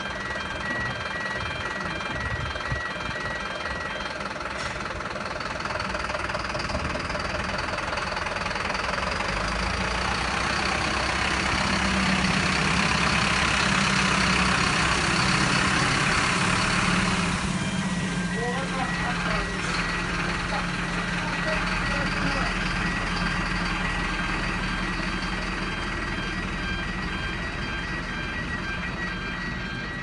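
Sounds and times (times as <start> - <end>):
truck diesel engine passing: 0.0 - 30.0.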